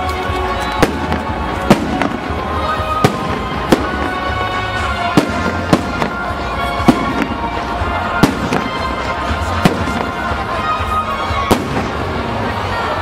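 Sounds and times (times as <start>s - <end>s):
fireworks bursting with bangs: 0.0s - 13.0s
music playing: 0.0s - 13.0s.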